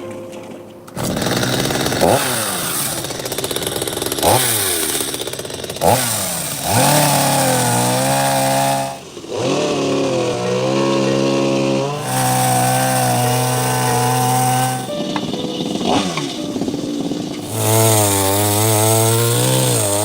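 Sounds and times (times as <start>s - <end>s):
small engine revving: 0.9s - 20.0s.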